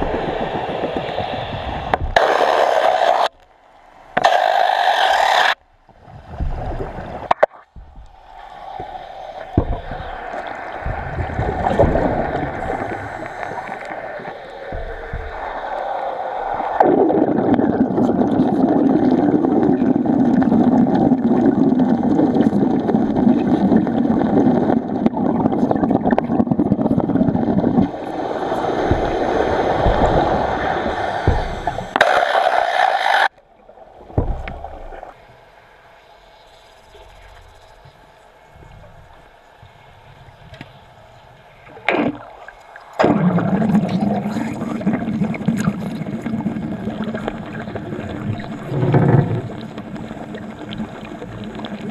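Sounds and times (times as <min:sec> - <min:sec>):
underwater welding arc crackling: 0:00.0 - 0:51.9.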